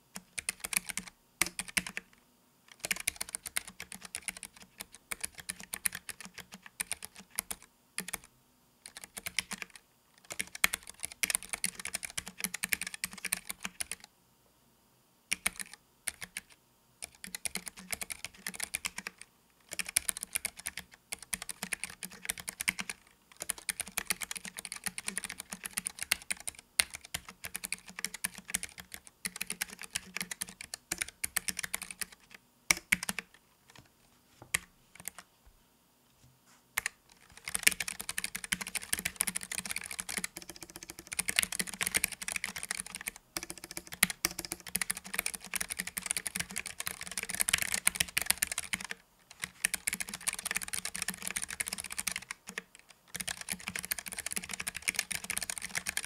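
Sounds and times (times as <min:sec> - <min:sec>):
typing on mechanical keyboard: 0:00.2 - 0:02.1, 0:02.7 - 0:08.3, 0:08.9 - 0:14.1, 0:15.3 - 0:33.9, 0:36.8 - 0:56.0.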